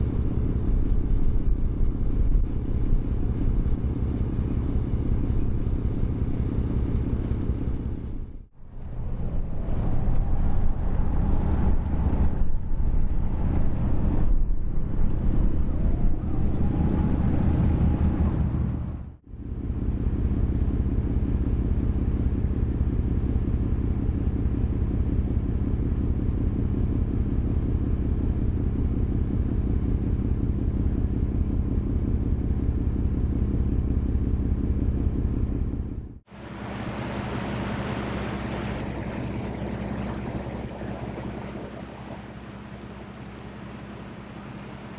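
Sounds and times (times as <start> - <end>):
ferry engine drone: 0.0 - 44.9.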